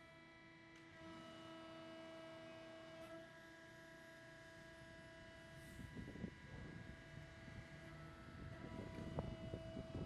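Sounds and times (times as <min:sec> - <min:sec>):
hydraulic pump motor hum and whine: 0:00.0 - 0:10.0.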